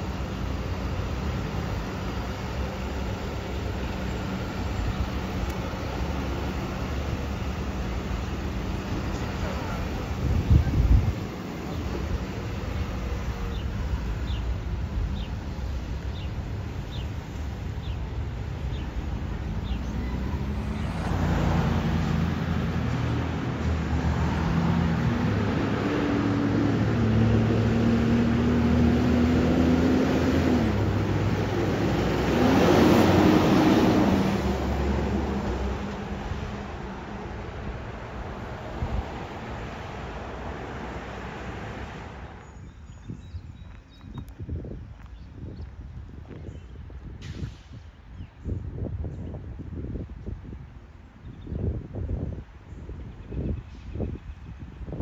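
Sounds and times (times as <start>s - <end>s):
bus diesel engine accelerating: 0.0s - 43.6s, 44.2s - 51.2s
road noise: 0.0s - 55.0s.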